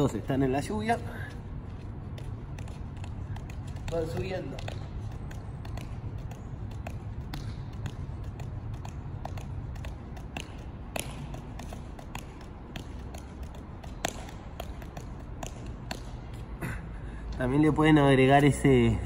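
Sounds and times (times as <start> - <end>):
juggling balls landing in hands: 1.3 - 17.1.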